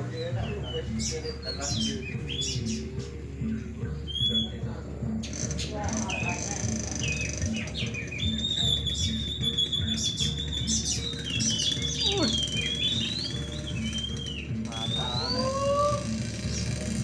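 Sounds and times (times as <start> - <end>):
birds singing whistled song: 0.0 - 17.0.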